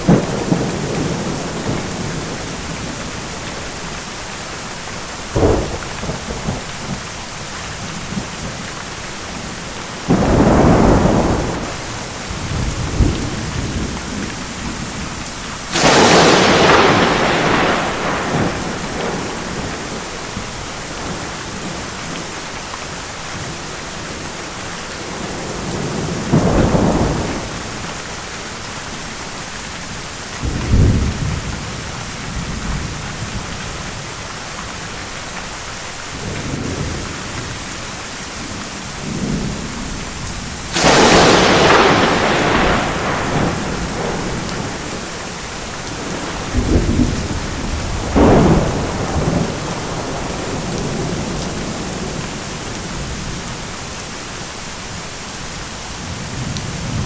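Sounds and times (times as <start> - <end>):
thunder rumbling and cracking: 0.0 - 22.5, 23.3 - 29.0, 30.3 - 35.0, 36.1 - 54.0
steady rain falling: 0.0 - 57.0.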